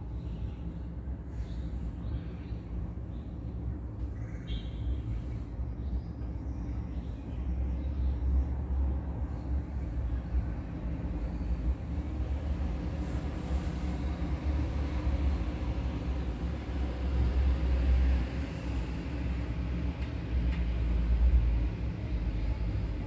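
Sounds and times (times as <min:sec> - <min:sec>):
distant trains rumbling: 0:00.0 - 0:23.0
road traffic rumble: 0:00.0 - 0:23.0.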